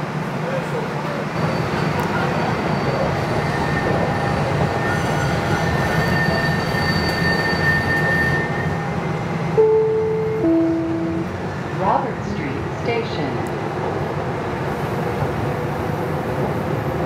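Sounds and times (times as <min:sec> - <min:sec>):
train car rumbling on track: 0:00.0 - 0:17.0.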